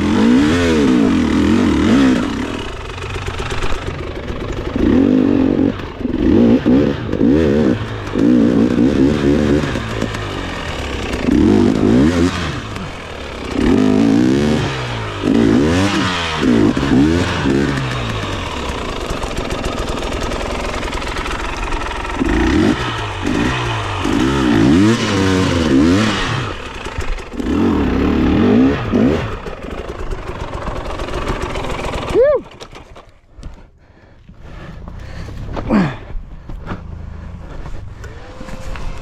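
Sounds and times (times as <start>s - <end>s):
dirt bike engine revving: 0.0s - 33.1s.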